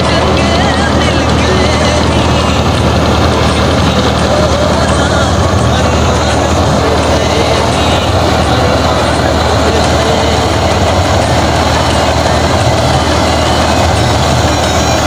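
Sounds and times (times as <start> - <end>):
threshing drum drone: 0.0 - 15.0
tractor engine running under load: 0.0 - 15.0.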